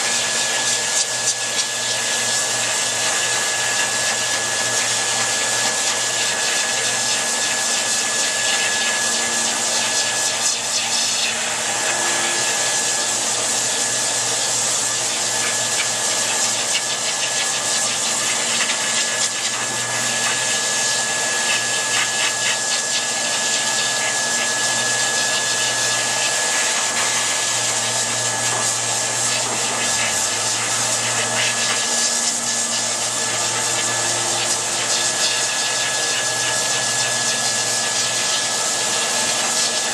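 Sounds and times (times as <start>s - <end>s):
grooming dryer blowing air: 0.0s - 39.9s.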